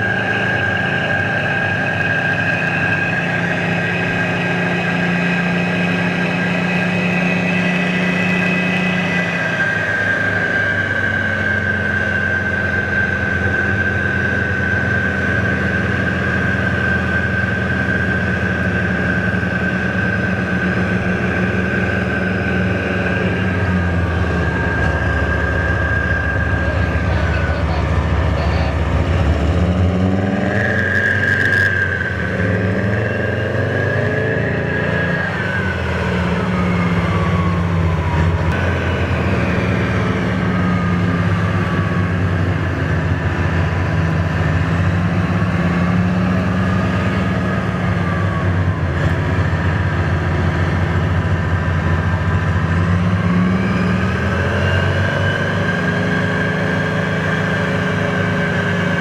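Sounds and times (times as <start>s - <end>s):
high whine gliding in pitch: 0.0s - 59.0s
tank diesel engine revving: 0.0s - 59.0s.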